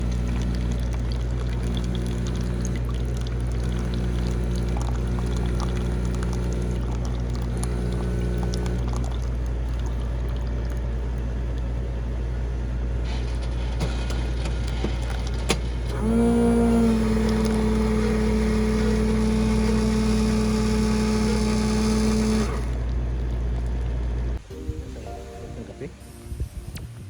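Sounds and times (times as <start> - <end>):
motor humming: 0.0 - 24.6.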